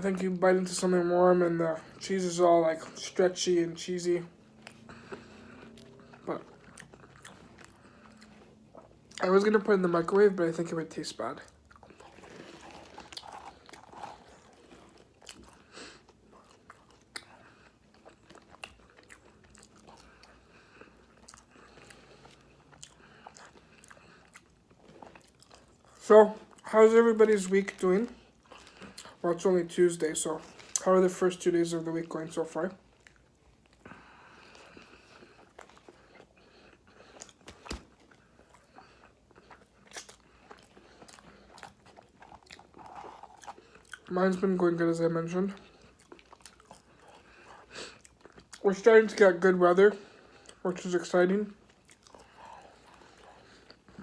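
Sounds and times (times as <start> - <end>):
person chewing food: 1.7 - 54.0.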